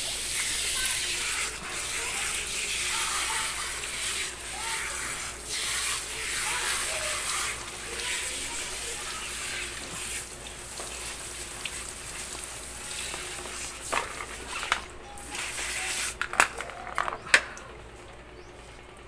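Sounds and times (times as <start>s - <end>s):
hose nozzle spray hissing: 0.0s - 16.2s.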